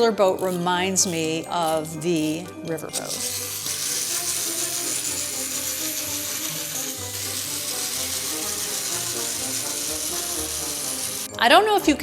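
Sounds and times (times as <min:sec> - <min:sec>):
background music: 0:00.0 - 0:12.0
wind-up toy gears whirring: 0:00.5 - 0:11.3.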